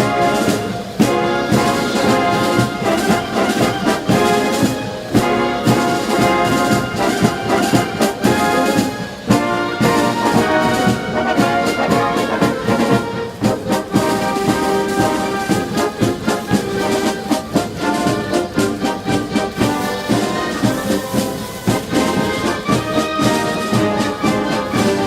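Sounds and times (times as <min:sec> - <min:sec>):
brass band playing: 0:00.0 - 0:25.0
drum strikes: 0:00.0 - 0:25.0.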